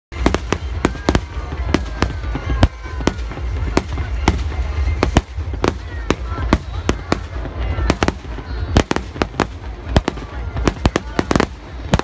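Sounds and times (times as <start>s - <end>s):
fireworks bursting: 0.1s - 12.0s.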